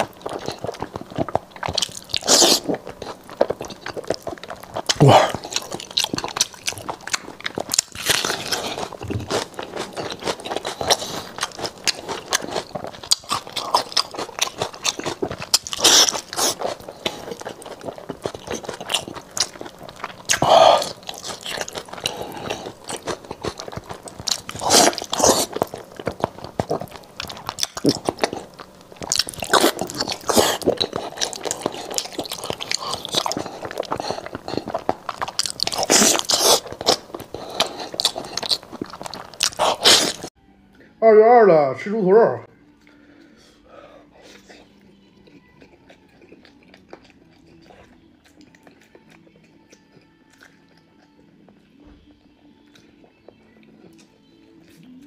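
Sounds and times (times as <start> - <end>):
man biting and chewing meat: 0.0 - 40.4, 42.7 - 55.0.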